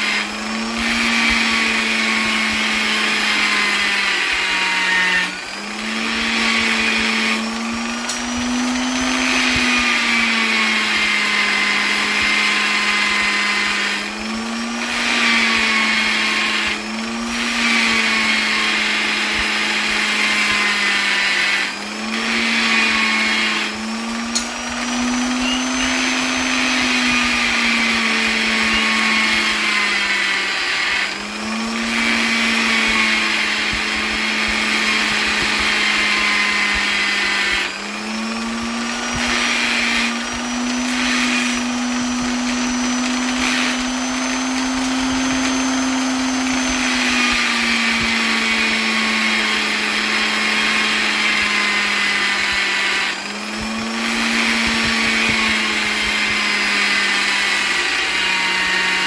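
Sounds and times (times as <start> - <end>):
electric polisher motor whining: 0.0 - 59.0.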